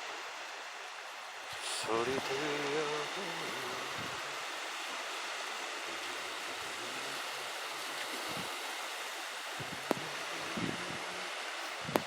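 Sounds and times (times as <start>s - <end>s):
ocean waves washing onto beach: 0.0s - 12.0s.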